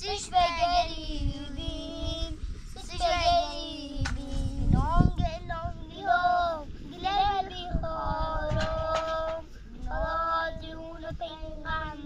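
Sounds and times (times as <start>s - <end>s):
young child singing: 0.0s - 12.0s.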